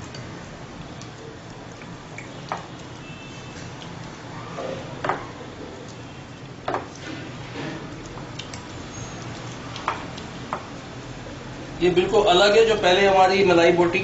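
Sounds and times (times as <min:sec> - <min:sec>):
wet squelching of stirring: 0:00.0 - 0:13.0.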